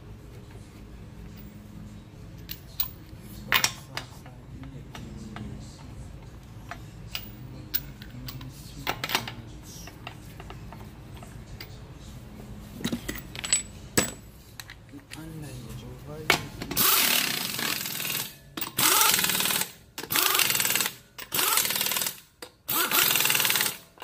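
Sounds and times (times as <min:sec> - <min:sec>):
steady low hum: 0:00.0 - 0:20.1
metal lug nuts clinking: 0:02.4 - 0:11.8, 0:12.8 - 0:15.3, 0:16.2 - 0:24.0.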